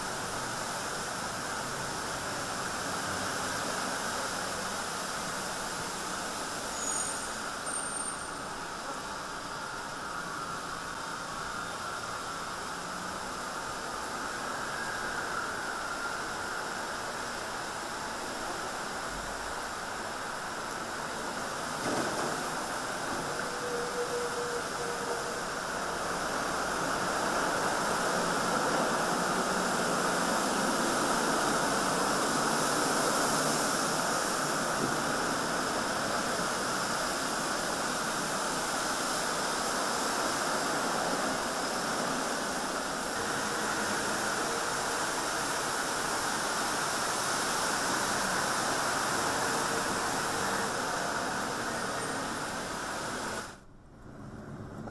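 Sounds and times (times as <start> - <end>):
low traffic hum: 8.3 - 54.9.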